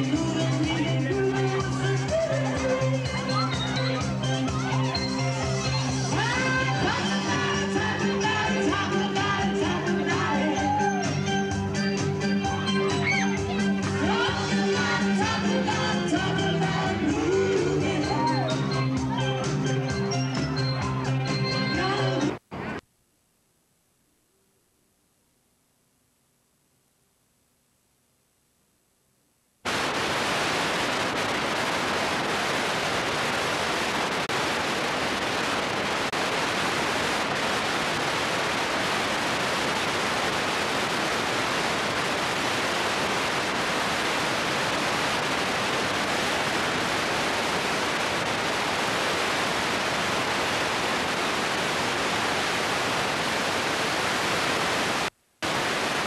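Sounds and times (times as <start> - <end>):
videotape static hiss: 0.0 - 56.0.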